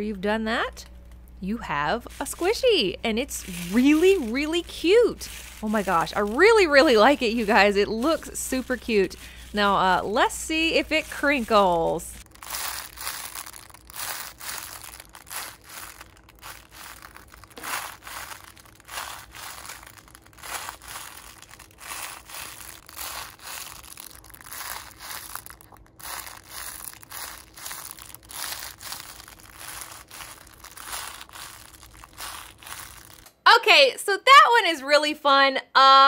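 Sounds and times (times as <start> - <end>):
foil crinkling in squeezed squishy: 1.2 - 33.3.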